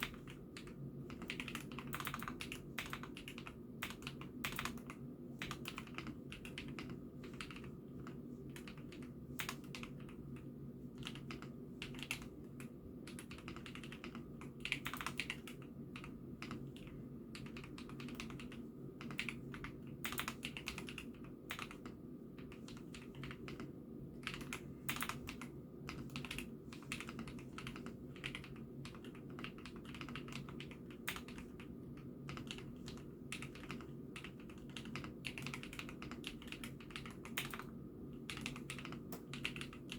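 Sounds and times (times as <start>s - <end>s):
mechanical keyboard clacks: 0.0s - 10.2s, 11.0s - 12.3s, 13.1s - 22.0s, 22.7s - 37.7s, 38.3s - 39.9s
low steady hum: 0.0s - 39.9s.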